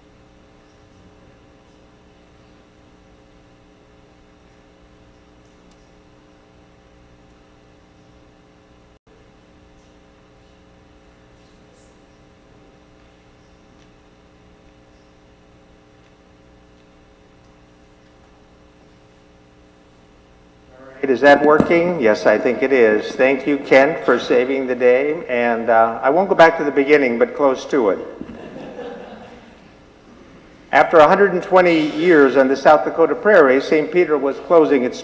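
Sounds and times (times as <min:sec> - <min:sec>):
faint mains hum: 0:00.0 - 0:35.0.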